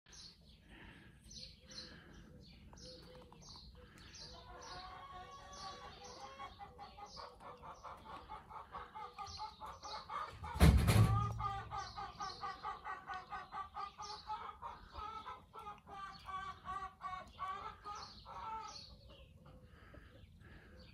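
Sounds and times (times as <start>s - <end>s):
hens clucking: 1.6s - 20.9s.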